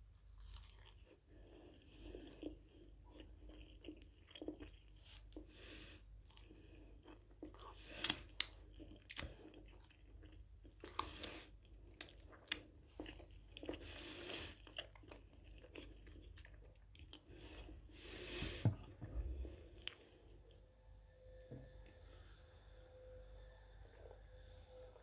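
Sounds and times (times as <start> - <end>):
person chewing food: 0.0 - 20.6.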